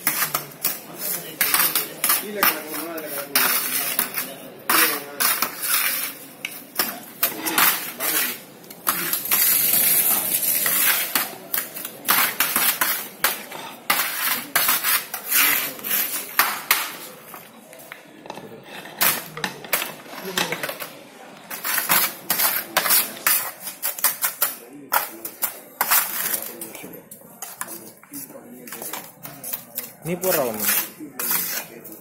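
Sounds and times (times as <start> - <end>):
trowels scraping metal tray: 0.0 - 17.2, 21.5 - 26.8, 28.6 - 32.0.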